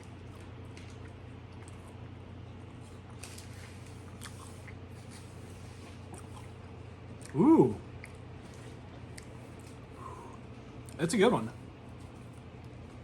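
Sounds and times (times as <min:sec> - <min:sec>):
wet chewing and mouth clicks: 0:00.0 - 0:11.0
steady low hum: 0:00.0 - 0:13.0.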